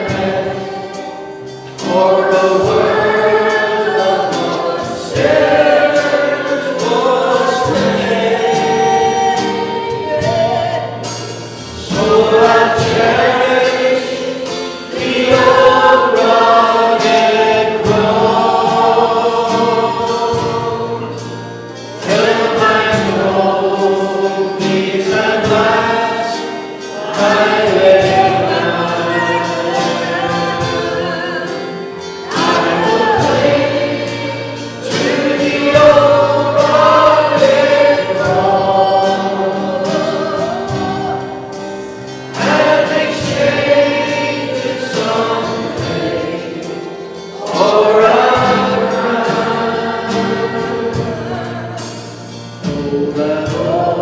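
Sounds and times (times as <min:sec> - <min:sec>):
voices singing a slow hymn: 0:00.0 - 0:54.0.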